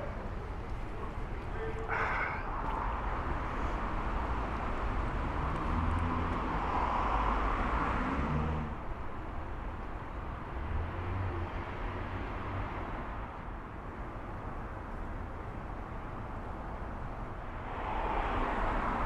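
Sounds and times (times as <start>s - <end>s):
background road noise: 0.0s - 19.0s
passing vehicle engine and tyres: 0.0s - 19.0s.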